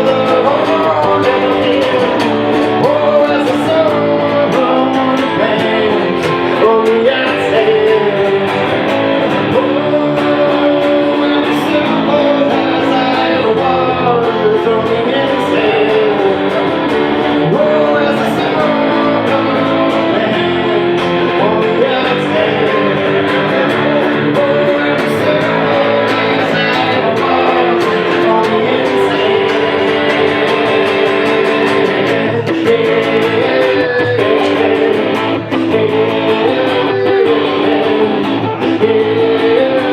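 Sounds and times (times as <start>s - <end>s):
blues rock guitar music: 0.0s - 39.9s.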